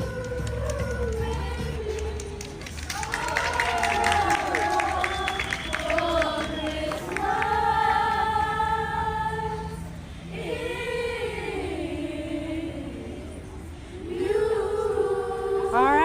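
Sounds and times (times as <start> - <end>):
school chorus singing: 3.0 - 16.0.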